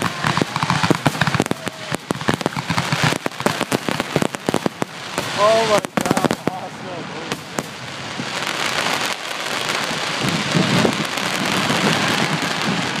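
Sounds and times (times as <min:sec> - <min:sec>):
fireworks crackling: 0:00.0 - 0:13.0
sharp firework bangs: 0:00.0 - 0:13.0.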